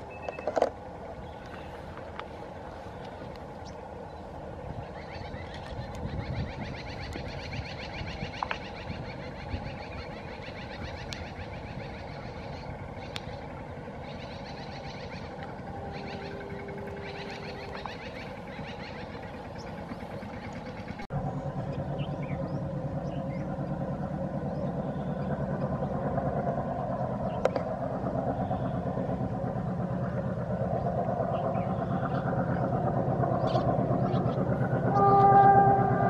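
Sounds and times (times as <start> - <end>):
diesel locomotive engine throbbing: 0.0 - 36.0.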